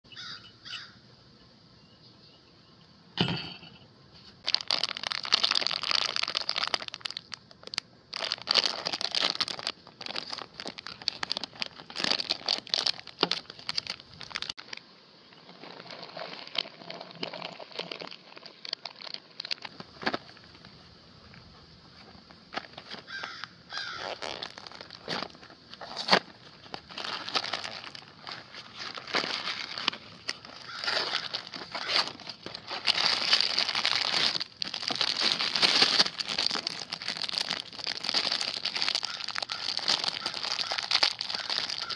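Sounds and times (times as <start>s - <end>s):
foil packaging crinkling: 4.4s - 14.8s, 15.4s - 20.8s, 22.0s - 41.9s.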